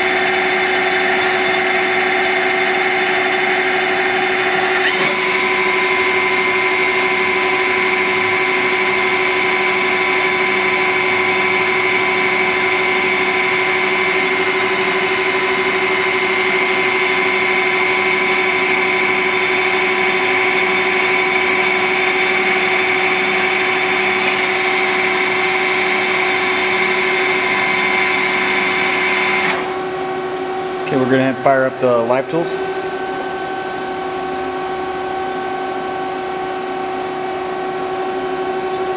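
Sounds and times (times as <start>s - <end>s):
lathe machine whine: 0.0s - 38.9s.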